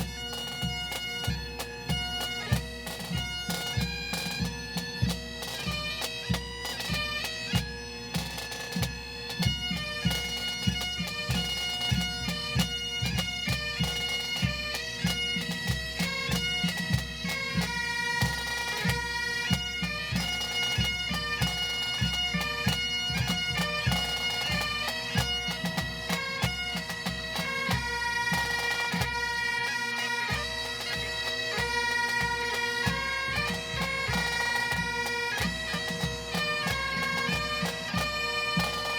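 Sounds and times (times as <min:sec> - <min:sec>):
bagpipes with drones: 0:00.0 - 0:38.9
drums beating: 0:00.0 - 0:38.9.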